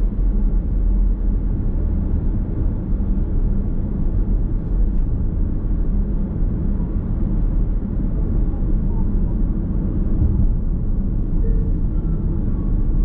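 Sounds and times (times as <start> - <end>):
car road and tyre rumble: 0.0 - 13.0.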